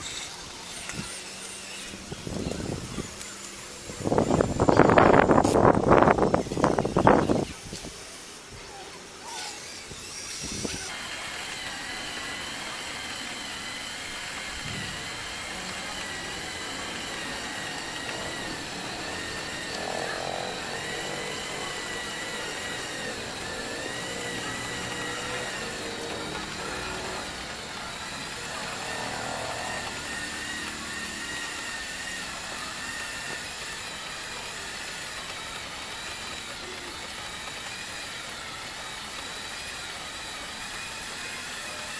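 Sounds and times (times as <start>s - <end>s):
small electric motors whirring: 0.0s - 41.9s.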